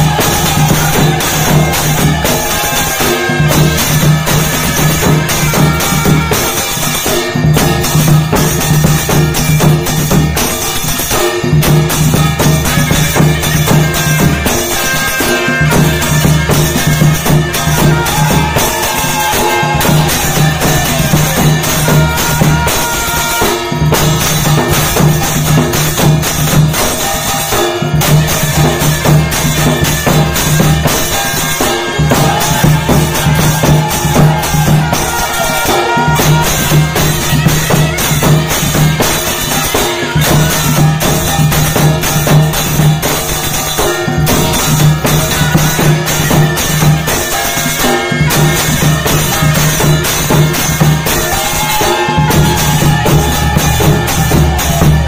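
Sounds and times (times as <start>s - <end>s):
devotional music with drums: 0.0s - 55.0s.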